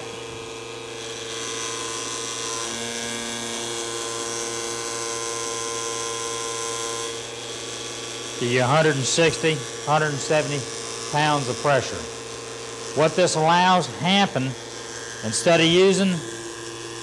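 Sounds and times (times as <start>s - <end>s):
electric pump humming: 0.0s - 17.0s.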